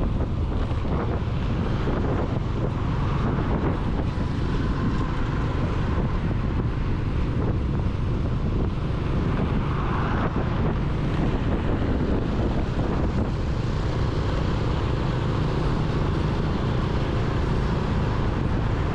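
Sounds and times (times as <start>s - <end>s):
vehicle noise: 0.0s - 18.9s
wind buffeting microphone: 0.0s - 18.9s.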